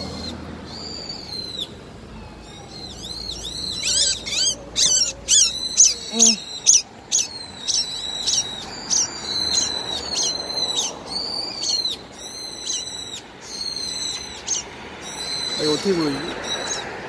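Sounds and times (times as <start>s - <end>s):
bird alarm calls: 2.5s - 17.0s.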